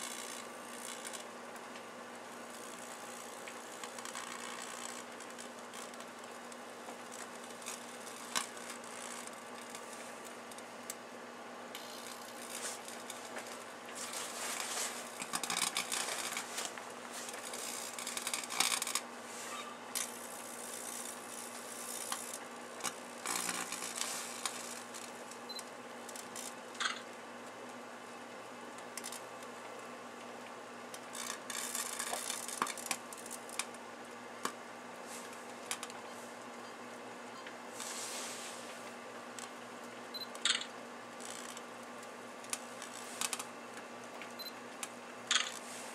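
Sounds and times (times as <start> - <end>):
electrical arcing crackles and snaps: 0.0 - 11.1, 11.7 - 36.6, 37.7 - 45.9
microwave ovens humming: 0.0 - 45.9.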